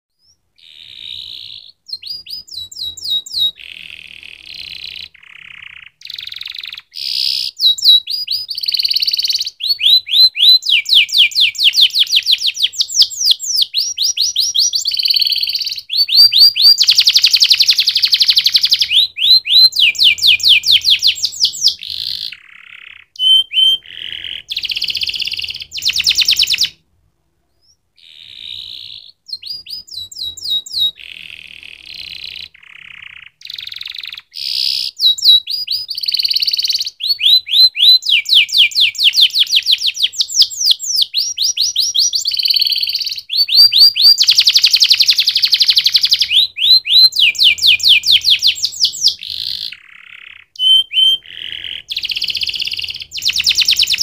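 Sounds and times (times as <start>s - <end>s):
canary singing trills: 0.1s - 26.8s, 27.5s - 54.0s.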